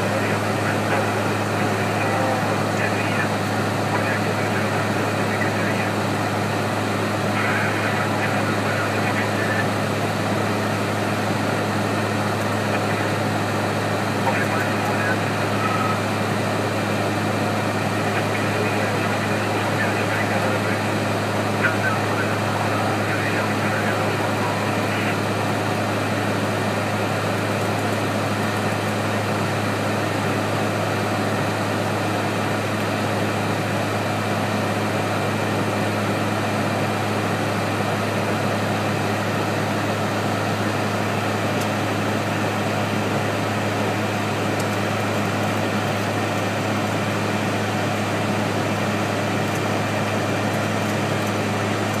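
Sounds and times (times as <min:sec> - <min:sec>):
airliner cabin engine drone: 0:00.0 - 0:52.0.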